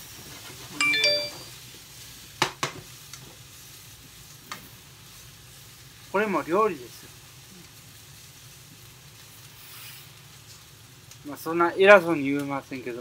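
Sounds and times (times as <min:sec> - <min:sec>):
cabbage sizzling in frying pan: 0:00.0 - 0:13.0.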